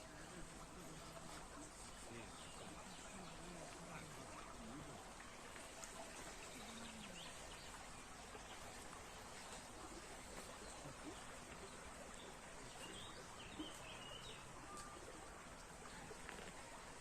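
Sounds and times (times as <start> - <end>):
soft outdoor hiss: 0.0 - 17.0.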